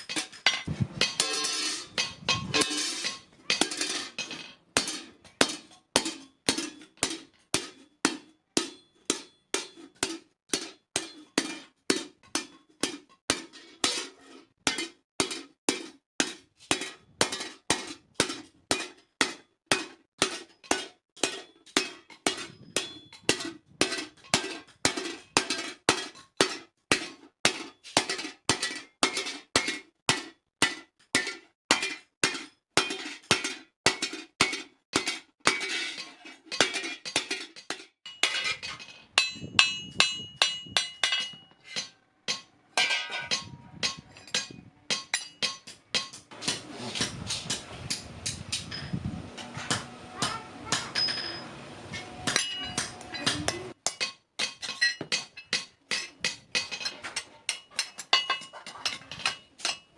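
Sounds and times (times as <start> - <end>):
hammer striking metal on anvil: 0.0 - 14.1, 14.7 - 35.7, 38.1 - 58.5.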